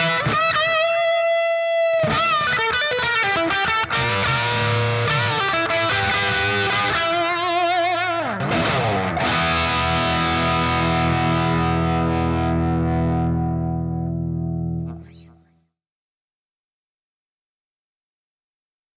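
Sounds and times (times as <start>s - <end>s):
overdriven electric guitar: 0.0s - 15.5s.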